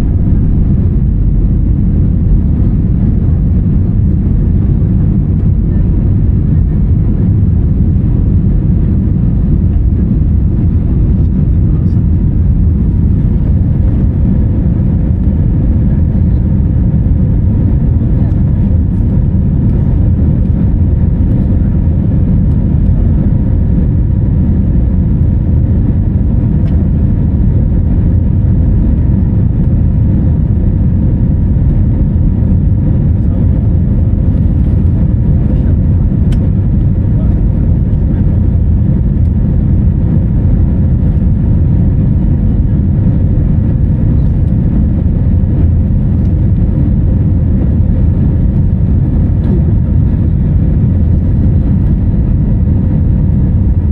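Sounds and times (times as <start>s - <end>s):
faint steady hum: 0.0s - 53.9s
vehicle rumble from inside: 0.0s - 53.9s.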